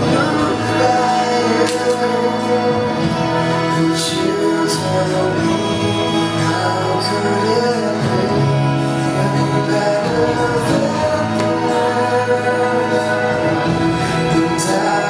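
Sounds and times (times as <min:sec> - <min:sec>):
song with singer and backing: 0:00.0 - 0:15.0.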